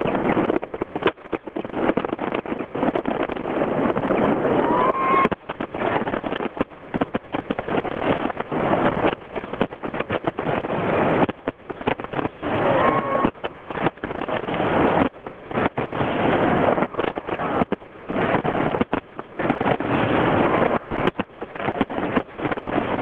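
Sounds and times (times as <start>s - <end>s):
fireworks bangs and crackles: 0.0s - 23.0s
steady rushing noise: 0.0s - 23.0s.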